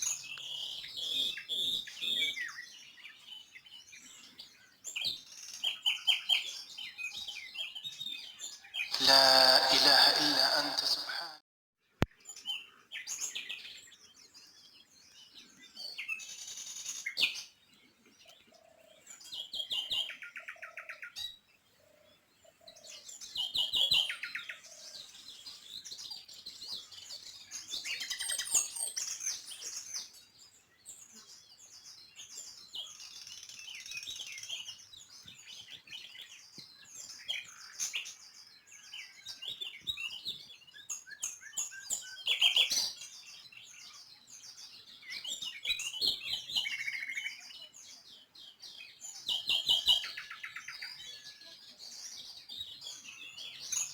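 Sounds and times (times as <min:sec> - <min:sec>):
songbirds chirping and trilling: 0:00.0 - 0:11.1, 0:11.8 - 0:53.9.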